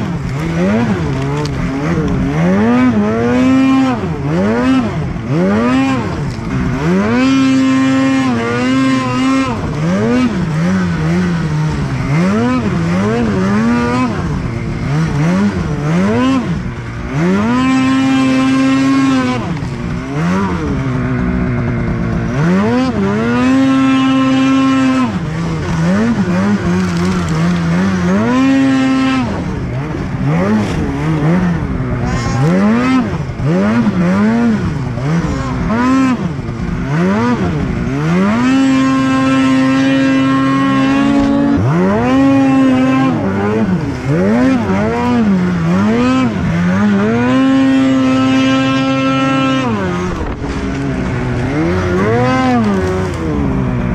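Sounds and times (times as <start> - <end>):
snowmobile engine revving: 0.0 - 53.9.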